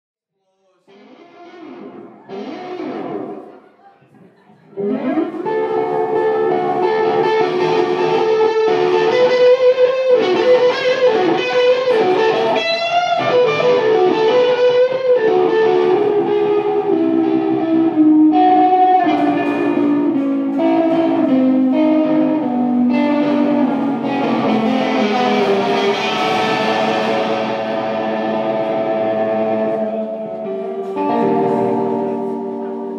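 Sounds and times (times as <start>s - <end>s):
electric guitar notes: 0.9s - 3.6s, 4.8s - 32.9s
live rock band music: 1.0s - 3.5s, 4.8s - 32.9s.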